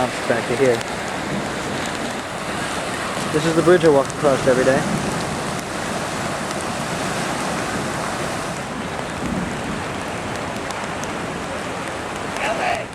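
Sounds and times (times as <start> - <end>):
creek water rushing: 0.0 - 12.9.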